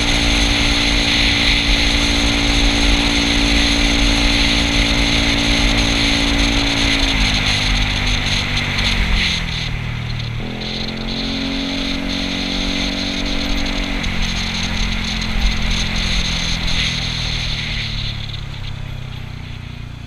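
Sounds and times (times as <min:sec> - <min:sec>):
scooter engine running: 0:00.0 - 0:20.0
wind and road noise: 0:00.0 - 0:20.0.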